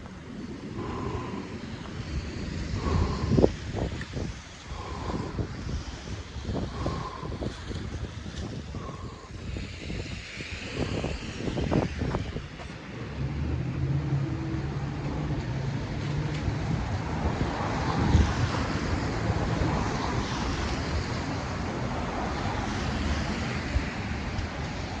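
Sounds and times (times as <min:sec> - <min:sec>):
vehicle engine running low: 0:00.0 - 0:04.1, 0:06.6 - 0:25.0
tyres hissing on wet road: 0:00.0 - 0:25.0
wind on microphone: 0:00.0 - 0:25.0.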